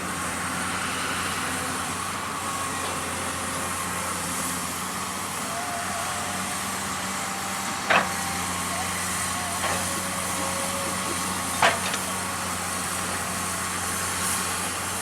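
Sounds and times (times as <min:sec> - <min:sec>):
heavy diesel engine humming: 0:00.0 - 0:15.0.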